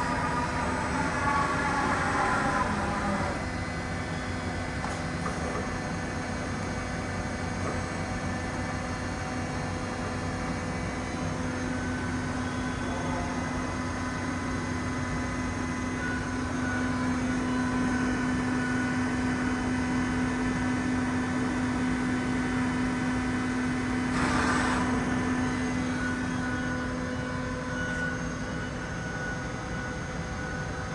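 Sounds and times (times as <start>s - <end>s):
lathe humming and whining: 0.0s - 30.9s.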